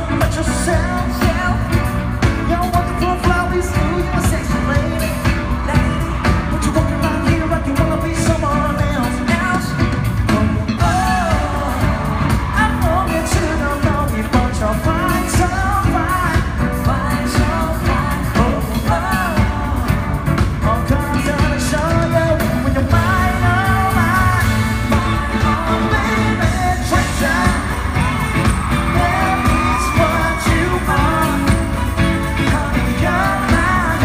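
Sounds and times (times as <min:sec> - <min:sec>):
live pop-rock band: 0:00.0 - 0:34.0
man singing: 0:00.0 - 0:34.0.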